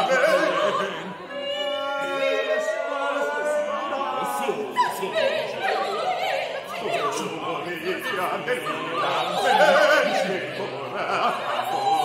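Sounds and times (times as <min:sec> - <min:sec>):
vocal group singing: 0:00.0 - 0:12.0.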